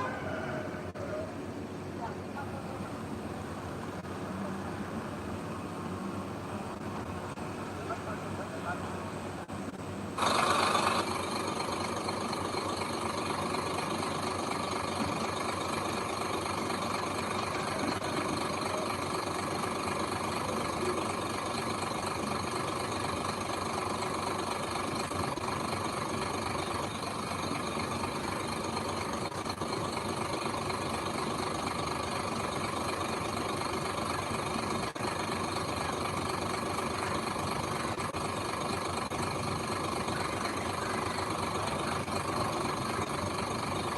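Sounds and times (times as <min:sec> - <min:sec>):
heavy machine engine running: 0:00.0 - 0:43.9.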